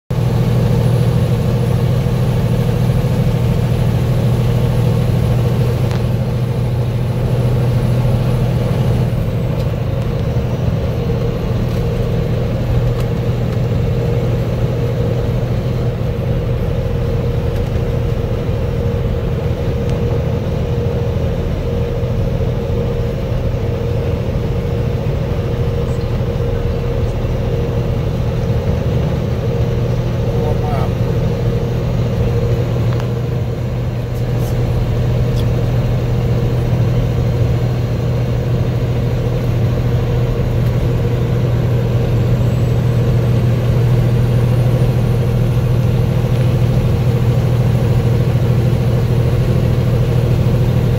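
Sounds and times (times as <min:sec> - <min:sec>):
diesel truck engine droning: 0:00.1 - 0:50.9
road noise: 0:00.1 - 0:50.9.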